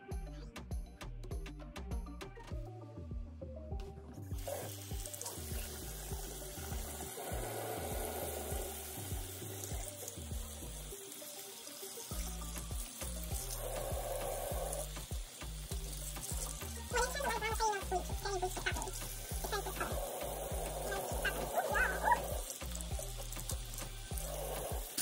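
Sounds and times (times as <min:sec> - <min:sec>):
music with steady beat: 0:00.0 - 0:25.0
faucet running: 0:04.3 - 0:25.0.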